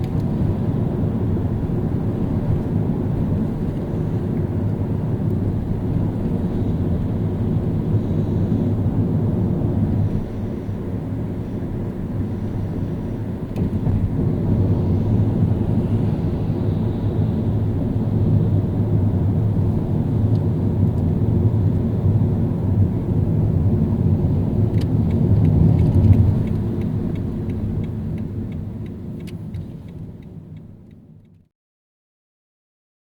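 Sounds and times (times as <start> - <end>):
road and engine rumble: 0.0 - 31.5.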